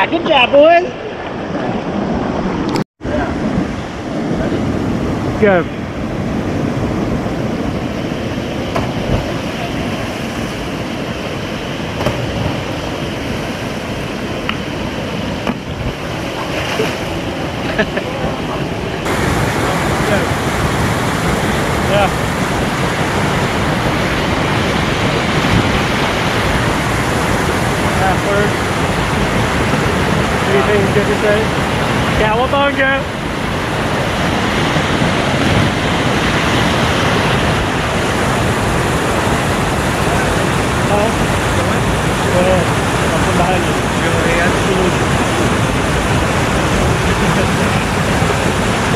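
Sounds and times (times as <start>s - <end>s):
water rushing over waterfall: 0.0s - 48.9s.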